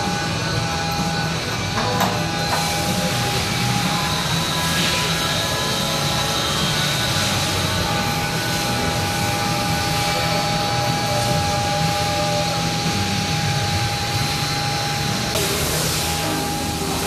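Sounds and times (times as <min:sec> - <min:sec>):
machine high-pitched whine: 0:00.0 - 0:17.0
machine hiss: 0:00.0 - 0:17.0.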